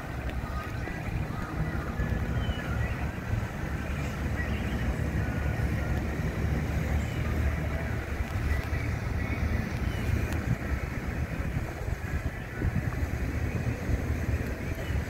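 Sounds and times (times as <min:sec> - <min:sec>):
boat outboard engines droning: 0:00.0 - 0:15.0.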